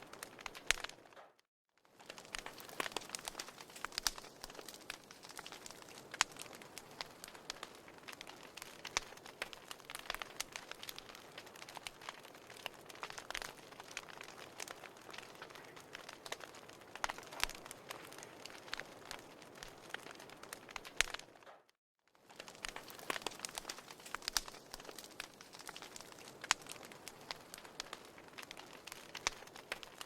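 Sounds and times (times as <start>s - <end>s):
fire crackling in a fireplace: 0.0s - 30.0s.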